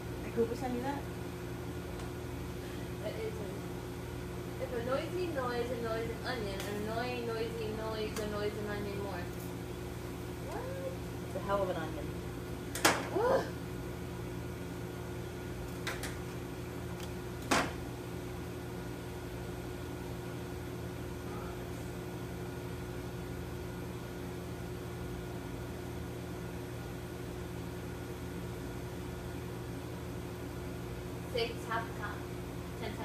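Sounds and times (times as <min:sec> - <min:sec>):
kitchen equipment humming: 0:00.0 - 0:33.0.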